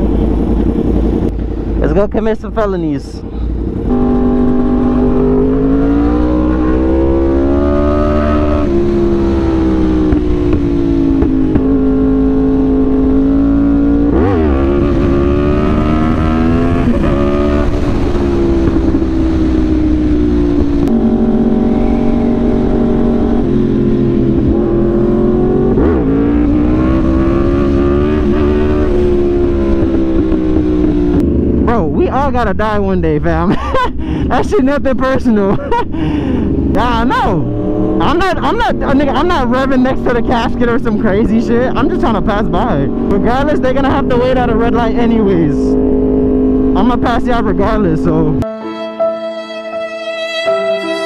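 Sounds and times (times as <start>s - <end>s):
motorcycle engine running: 0.0s - 33.0s, 36.2s - 48.4s.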